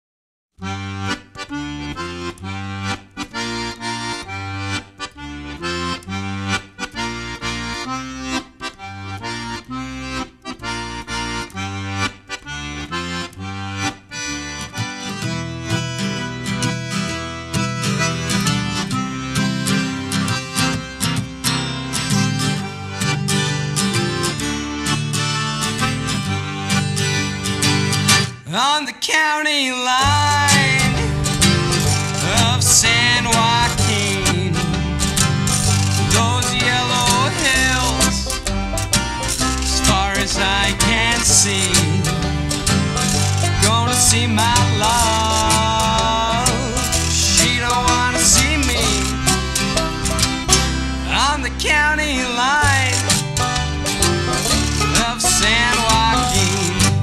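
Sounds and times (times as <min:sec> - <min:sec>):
folk band playing: 0:00.6 - 0:28.4, 0:30.0 - 0:57.0
plucked guitar: 0:00.6 - 0:28.6, 0:30.0 - 0:57.0
accordion chords: 0:00.6 - 0:57.0.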